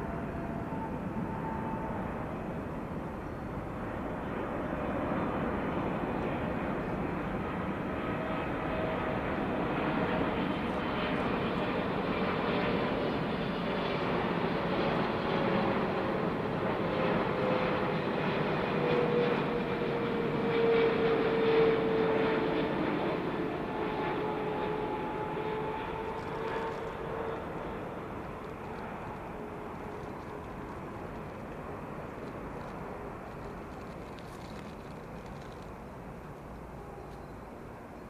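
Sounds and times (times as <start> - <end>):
jet airliner passing: 0.0 - 38.0.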